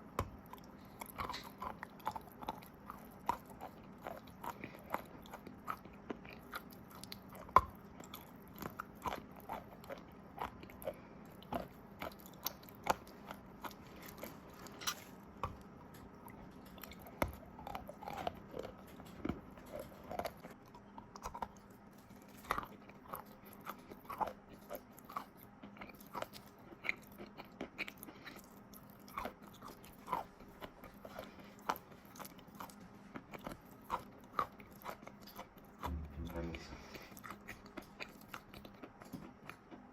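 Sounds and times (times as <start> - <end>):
crunching and chewing chalk: 0.0 - 39.9.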